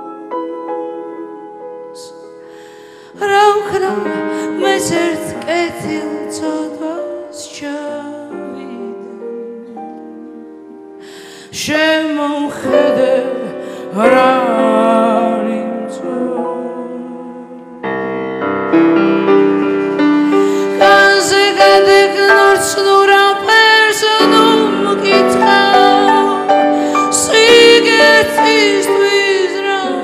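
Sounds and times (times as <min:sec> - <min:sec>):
woman singing ballad: 0:00.0 - 0:10.4, 0:11.0 - 0:17.8, 0:20.3 - 0:30.0
grand piano: 0:00.0 - 0:30.0.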